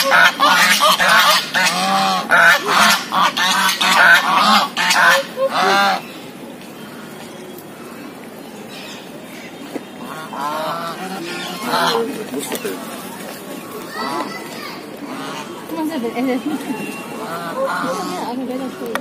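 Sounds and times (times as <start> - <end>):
geese or swans honking: 0.0 - 6.2, 9.9 - 19.0.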